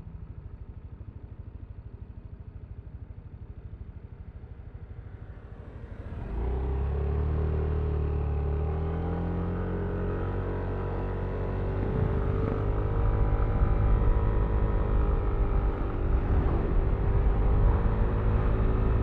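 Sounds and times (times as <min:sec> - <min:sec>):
scooter engine idling and revving: 0:00.0 - 0:19.0.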